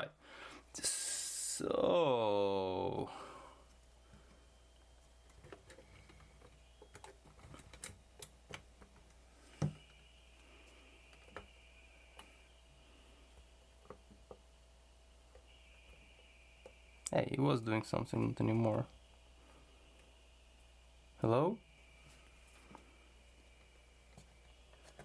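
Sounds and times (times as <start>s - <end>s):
faint high whine: 0.0s - 25.0s
low electrical hum: 0.0s - 25.0s.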